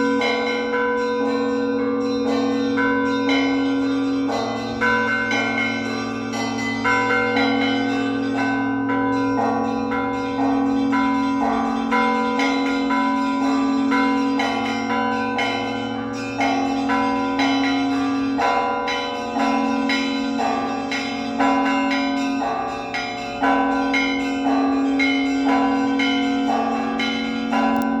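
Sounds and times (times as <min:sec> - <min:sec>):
large bell humming: 0:00.0 - 0:28.0
small church bells pealing: 0:00.0 - 0:28.0.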